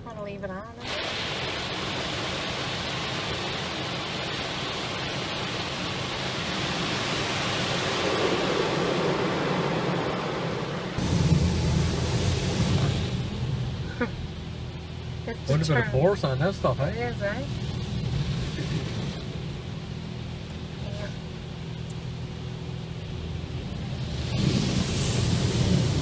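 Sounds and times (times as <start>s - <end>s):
water jets spraying on car: 0.8s - 26.0s.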